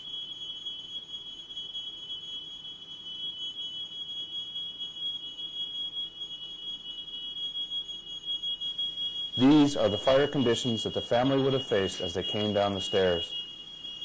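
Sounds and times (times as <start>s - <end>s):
smoke alarm high-pitched tone: 0.0s - 14.0s.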